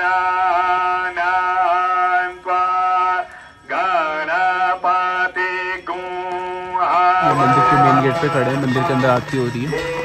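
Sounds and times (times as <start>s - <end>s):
man singing devotional chant: 0.0s - 10.0s.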